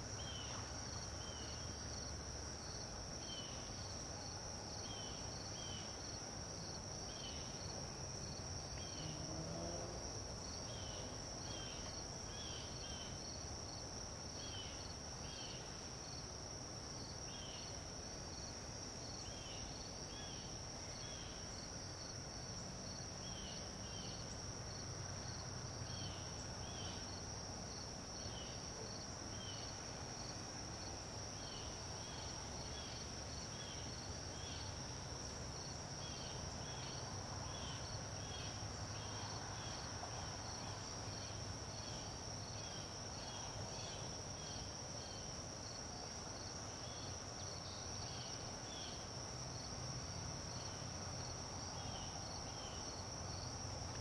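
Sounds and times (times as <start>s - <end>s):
insect chirps: 0.0s - 54.0s.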